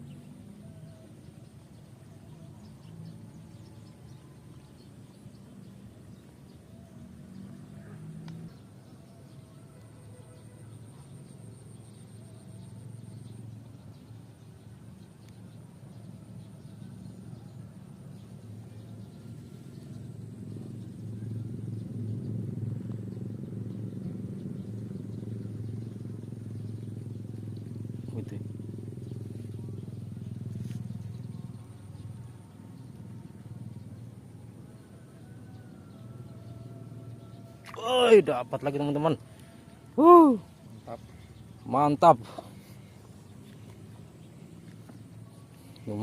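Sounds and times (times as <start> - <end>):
low engine-like drone: 0.0 - 46.0
low steady hum: 0.0 - 46.0.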